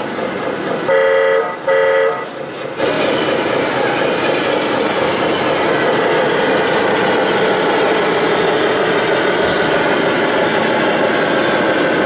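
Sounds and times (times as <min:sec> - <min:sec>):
loud steady rushing noise: 0:00.0 - 0:12.0.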